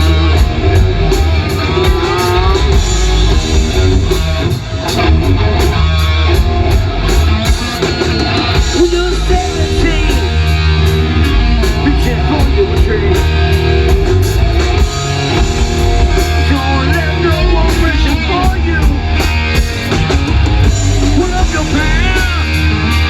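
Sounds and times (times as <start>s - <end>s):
bass guitar: 0.0s - 23.0s
distorted electric guitar: 0.0s - 23.0s
drums and cymbals: 0.0s - 23.0s.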